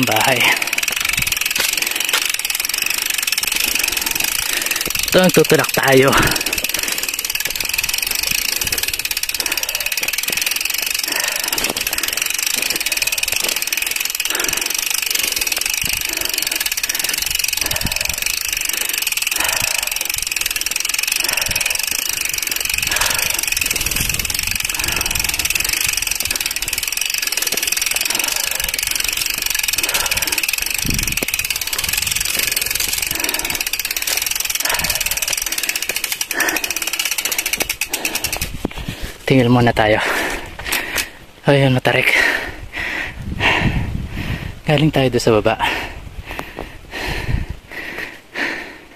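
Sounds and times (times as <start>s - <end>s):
bike tyres rumbling on dirt: 0.0s - 41.0s.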